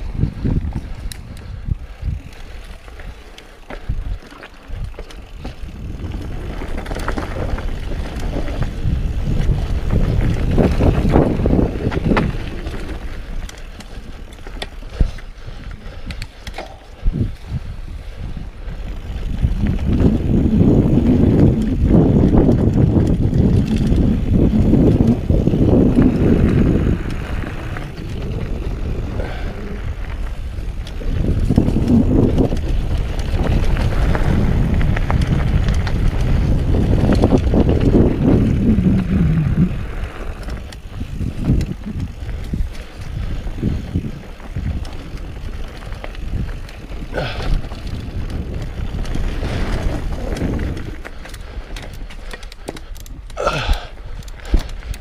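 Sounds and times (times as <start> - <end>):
bike tyres rumbling on dirt: 0.0 - 55.0
wind rushing over microphone: 0.0 - 55.0.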